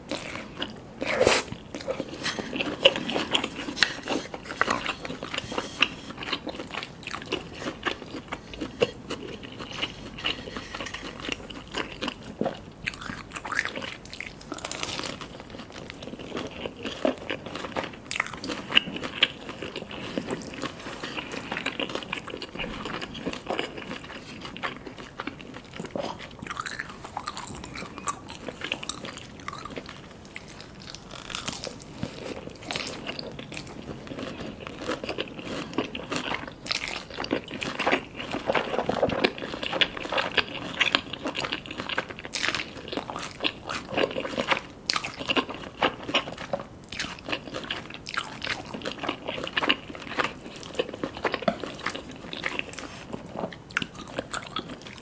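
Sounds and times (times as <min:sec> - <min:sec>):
crunchy bites and chewing: 0:00.0 - 0:55.0.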